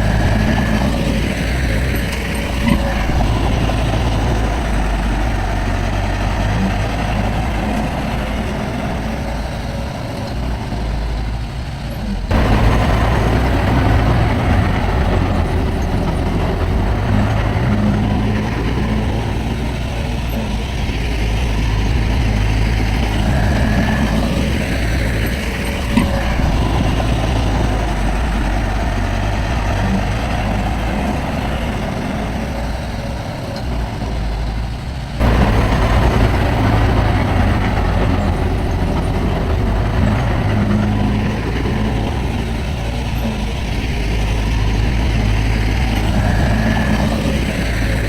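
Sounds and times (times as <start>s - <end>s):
heavy machinery diesel engines: 0.0s - 48.0s.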